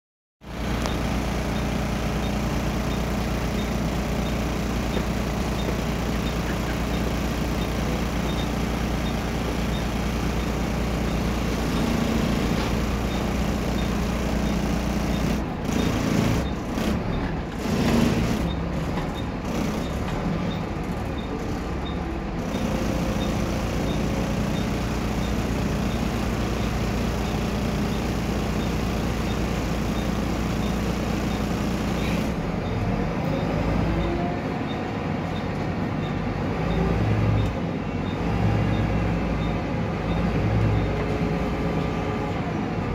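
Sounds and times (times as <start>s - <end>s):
bus diesel engine droning: 0.5s - 42.9s.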